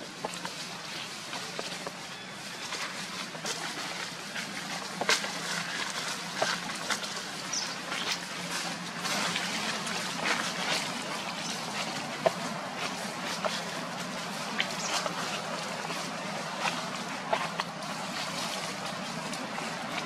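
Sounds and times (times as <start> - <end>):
dry leaves crackling and rustling: 0.0 - 20.0.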